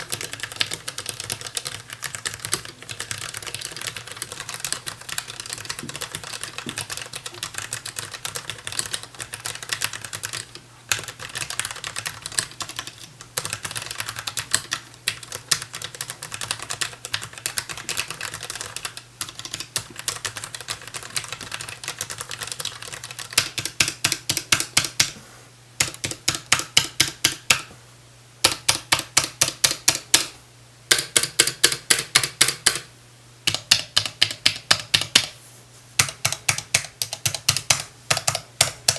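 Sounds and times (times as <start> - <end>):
fast typing on keyboard: 0.0 - 25.2, 25.8 - 27.6, 28.4 - 30.3, 30.9 - 32.9, 33.5 - 35.3, 36.0 - 38.9.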